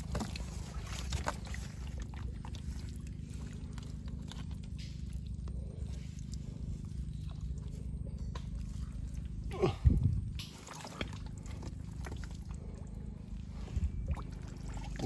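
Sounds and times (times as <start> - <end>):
hand squelching through wet mud: 0.0 - 15.0
steady low hum: 0.0 - 15.0.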